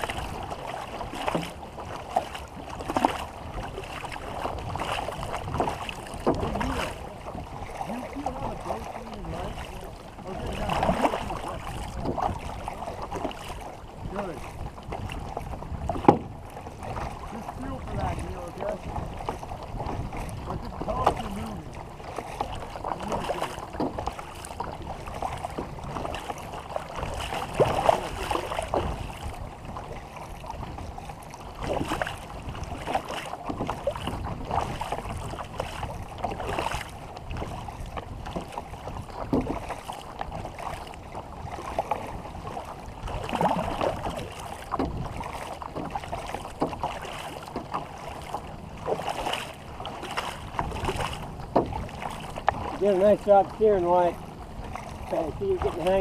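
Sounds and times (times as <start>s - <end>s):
paddles splashing in water: 0.0s - 56.0s
wind on microphone: 0.0s - 56.0s.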